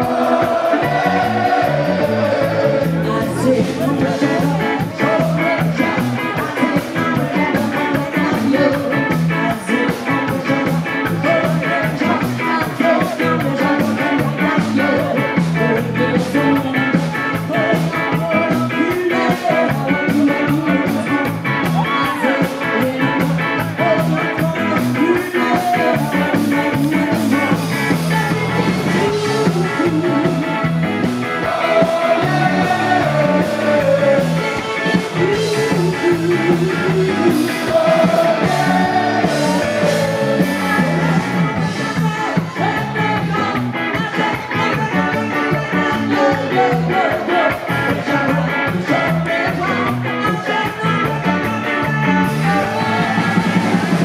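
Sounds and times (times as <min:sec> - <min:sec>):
person singing: 0:00.0 - 0:30.8, 0:31.4 - 0:54.0
live ska band playing: 0:00.0 - 0:54.0.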